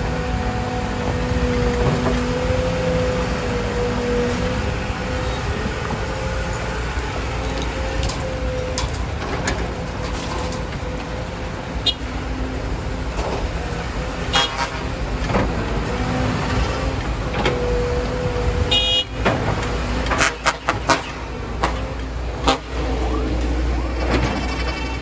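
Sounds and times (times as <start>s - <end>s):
diesel engines rumbling: 0.0s - 25.0s.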